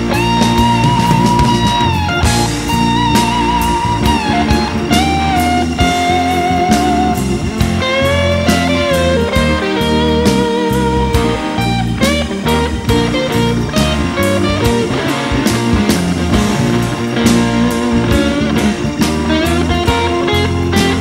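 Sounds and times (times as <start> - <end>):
bass guitar: 0.0 - 21.0
drum beat: 0.0 - 21.0
lead electric guitar bending notes: 0.0 - 21.0.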